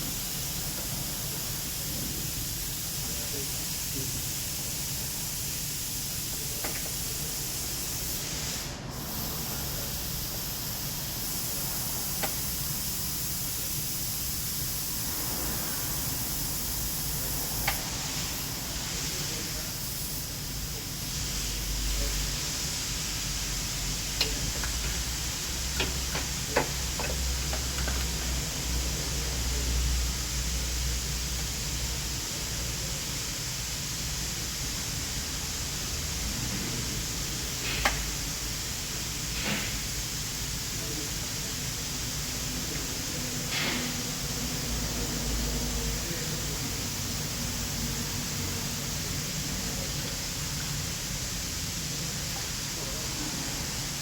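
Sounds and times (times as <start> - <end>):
steady hissing noise: 0.0 - 54.0.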